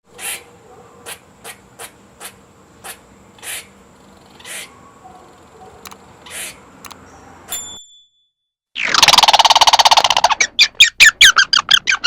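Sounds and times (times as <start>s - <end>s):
squirrel harsh calls: 0.1s - 7.2s, 8.8s - 12.0s.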